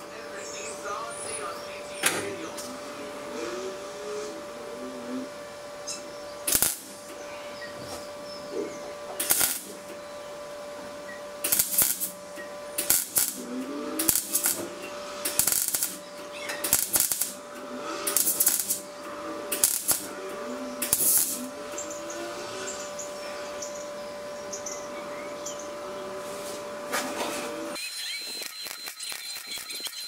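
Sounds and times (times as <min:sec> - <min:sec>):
welding arc crackling: 0:00.0 - 0:23.2, 0:26.6 - 0:30.0.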